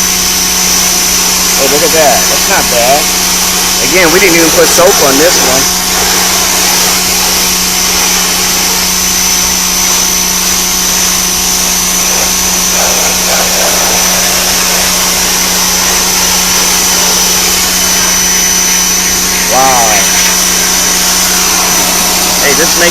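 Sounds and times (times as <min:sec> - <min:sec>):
pressure washer motor humming: 0:00.0 - 0:22.9
water jet hissing: 0:01.6 - 0:22.9.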